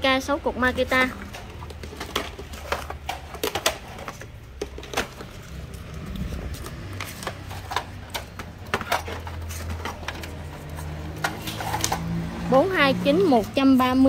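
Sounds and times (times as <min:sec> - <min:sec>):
plastic chargers clacking: 0:00.7 - 0:12.3.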